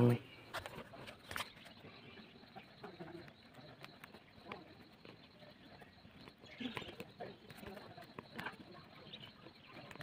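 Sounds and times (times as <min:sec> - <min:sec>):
faint bird cooing: 0:00.0 - 0:10.0.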